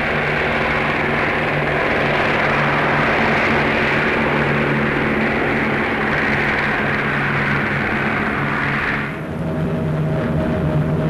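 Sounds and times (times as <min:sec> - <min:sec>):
aircraft engines droning: 0:00.0 - 0:11.0
rushing noise: 0:00.0 - 0:11.0.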